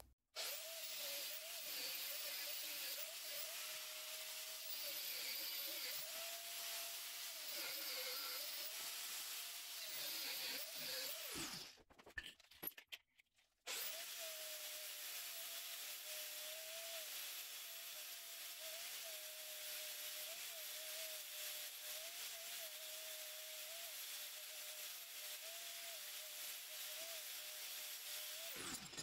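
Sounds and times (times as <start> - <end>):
angle grinder cutting steel: 0.4 - 11.7, 13.7 - 29.0.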